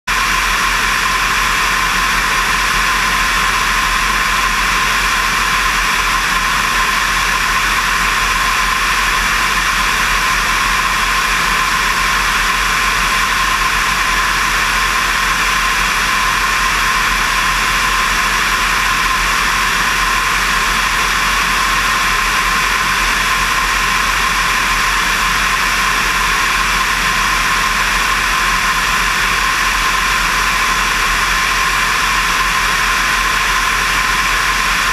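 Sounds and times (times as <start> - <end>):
low aircraft engine drone: 0.1 - 34.9.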